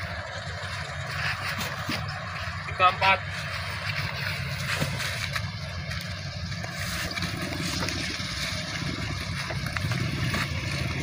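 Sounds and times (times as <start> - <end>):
low engine rumble: 0.0 - 11.0
outdoor noise rush: 0.0 - 11.0.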